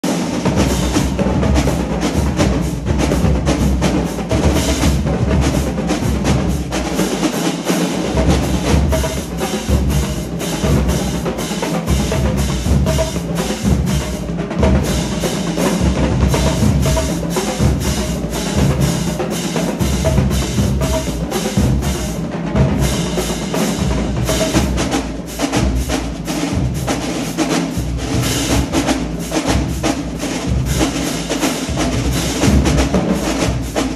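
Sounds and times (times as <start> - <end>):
cymbals: 0.0 - 33.9
snare drums: 0.0 - 33.9.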